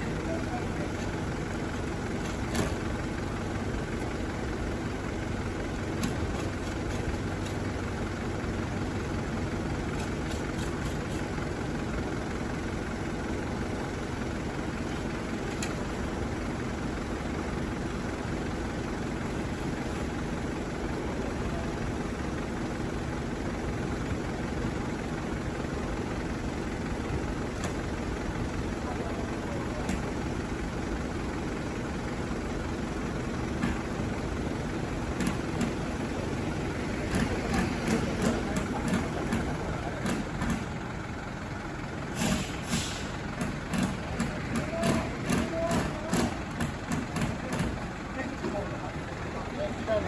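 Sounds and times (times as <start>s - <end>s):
fire engine idling: 0.0s - 50.0s.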